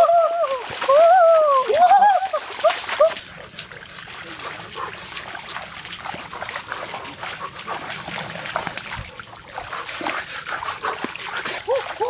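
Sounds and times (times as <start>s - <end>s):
feet splashing through water: 0.0s - 12.0s.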